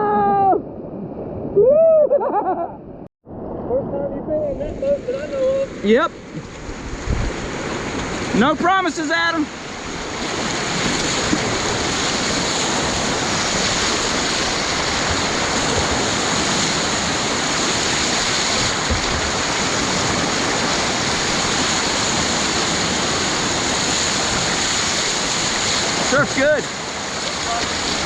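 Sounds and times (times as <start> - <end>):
river rapid rushing: 4.8 - 28.0.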